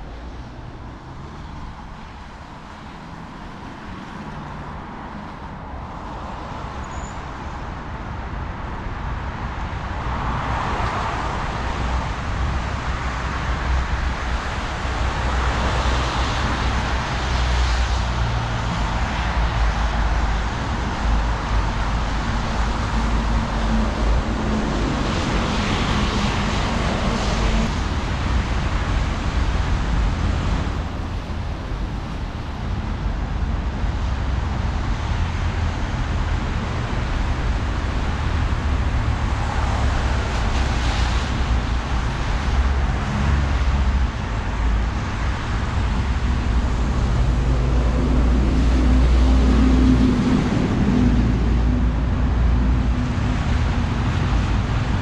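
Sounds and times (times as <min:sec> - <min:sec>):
cars passing: 0:00.0 - 0:55.0
engine hum: 0:08.0 - 0:55.0.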